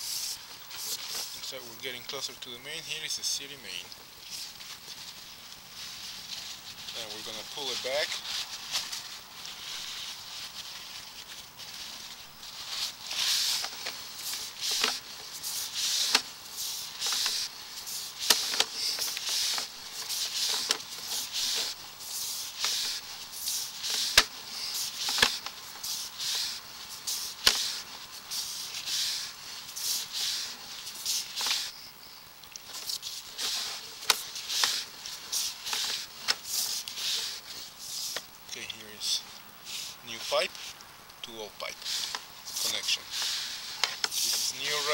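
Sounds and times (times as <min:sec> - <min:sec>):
cable scraping hiss: 0:00.0 - 0:44.9.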